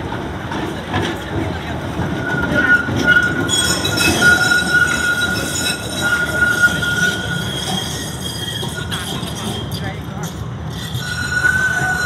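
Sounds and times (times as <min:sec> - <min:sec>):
tram running gear rumble: 0:00.0 - 0:12.0
tram wheels squealing on rails: 0:00.3 - 0:12.0.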